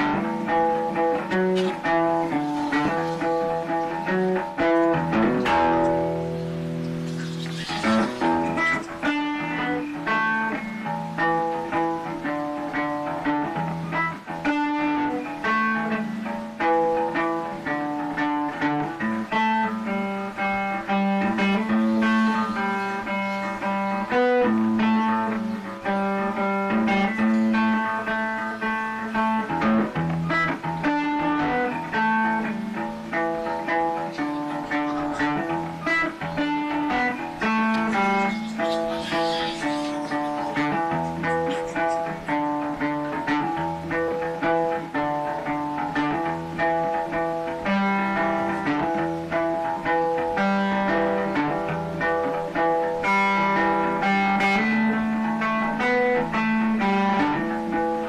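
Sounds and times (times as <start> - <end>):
plucked strings playing quick runs: 0.0 - 58.0.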